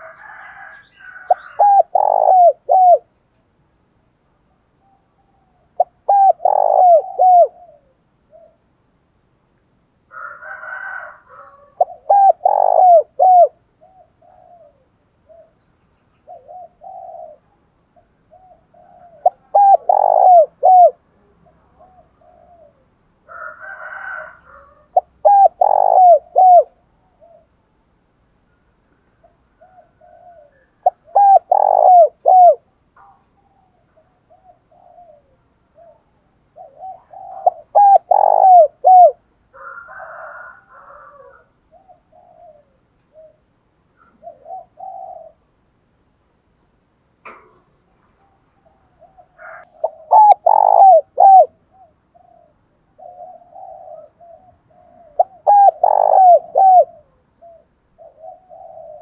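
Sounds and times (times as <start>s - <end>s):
dove cooing: 0.0s - 3.2s, 4.8s - 8.7s, 10.1s - 15.6s, 16.2s - 27.7s, 29.2s - 45.6s, 47.3s - 59.0s.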